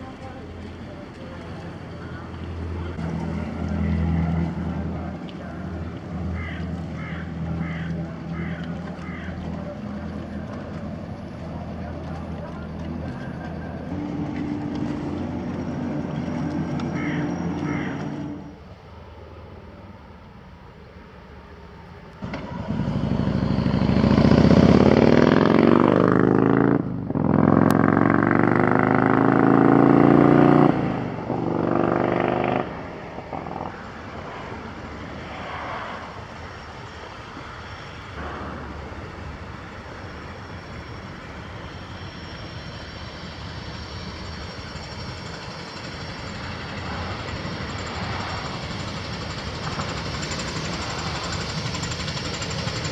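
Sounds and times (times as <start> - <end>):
engine passing by: 0.0 - 20.1, 21.6 - 52.9
low engine drone: 0.0 - 52.9.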